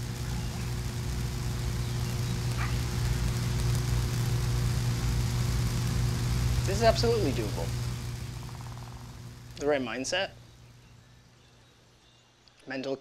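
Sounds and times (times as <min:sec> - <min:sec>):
electrical hum with tones: 0:00.0 - 0:12.4.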